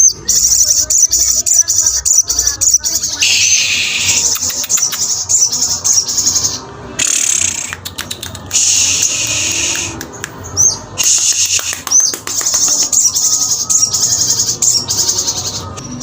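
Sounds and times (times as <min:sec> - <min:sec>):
songbird chattering trills: 0:00.0 - 0:15.8.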